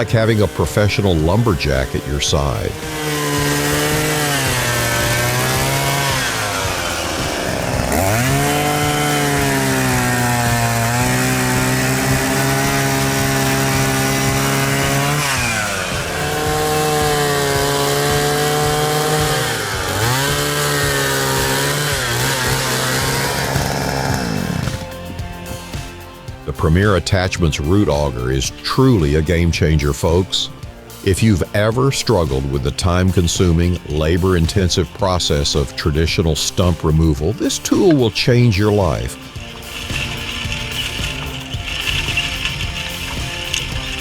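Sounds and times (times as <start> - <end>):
petrol saw engine revving: 0.0 - 26.6, 32.2 - 44.0.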